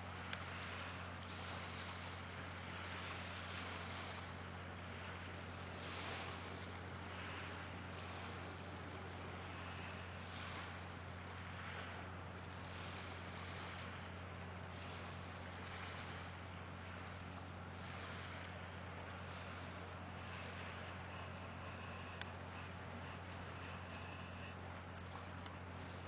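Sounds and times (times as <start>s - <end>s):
small waves lapping at shore: 0.0s - 26.0s
steady low hum: 0.0s - 26.0s.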